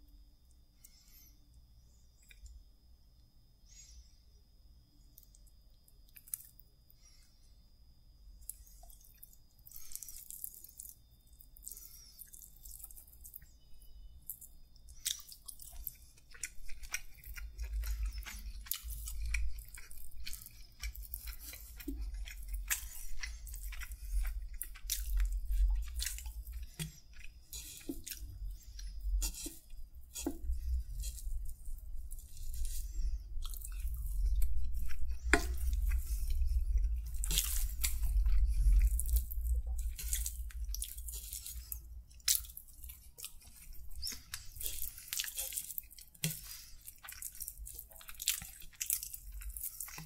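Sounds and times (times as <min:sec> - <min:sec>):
close chewing and mouth clicks: 0:02.1 - 0:02.6, 0:05.1 - 0:07.2, 0:08.4 - 0:50.0.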